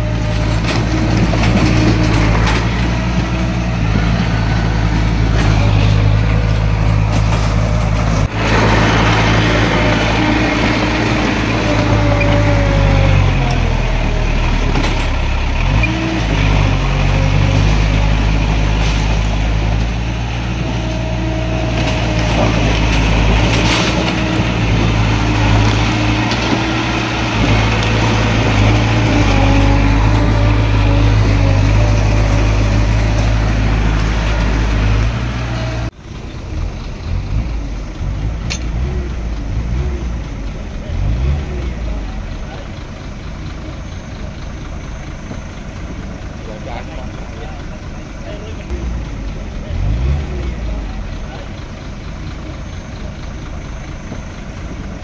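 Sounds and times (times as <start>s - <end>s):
diesel engine under varying load: 0.0s - 55.0s.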